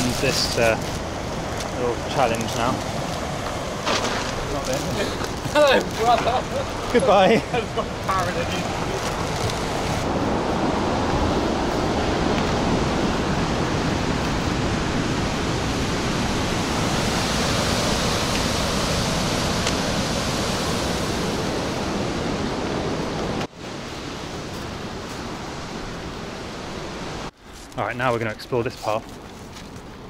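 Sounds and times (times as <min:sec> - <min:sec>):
sea surf breaking on rocks: 0:00.0 - 0:27.3
wind on microphone: 0:00.0 - 0:27.3.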